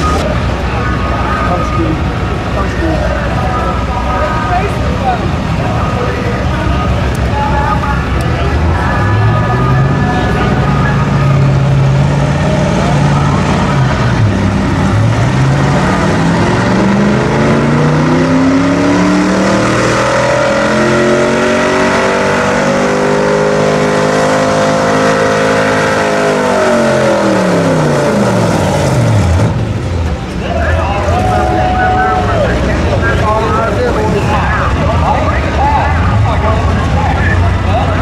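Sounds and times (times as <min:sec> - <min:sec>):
pickup engine under full load: 0:00.0 - 0:38.0.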